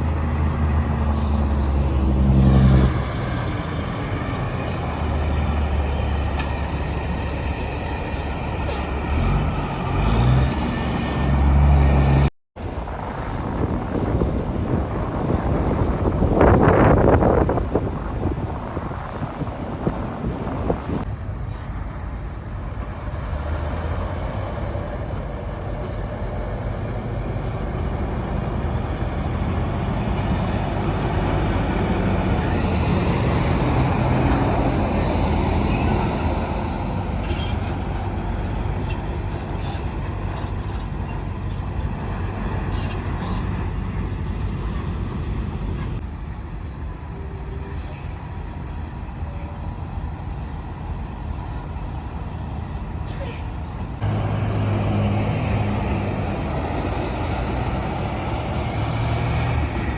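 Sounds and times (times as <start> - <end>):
heavy vehicles rumbling past: 0.0 - 59.9.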